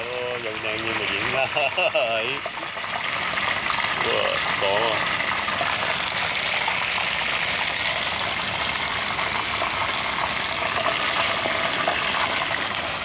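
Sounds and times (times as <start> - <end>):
mushrooms deep-frying in oil: 0.0 - 13.0.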